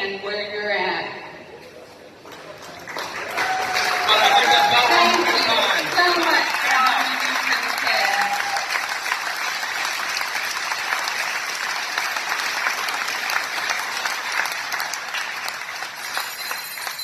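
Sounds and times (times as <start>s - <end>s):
crowd applauding: 2.2s - 17.0s.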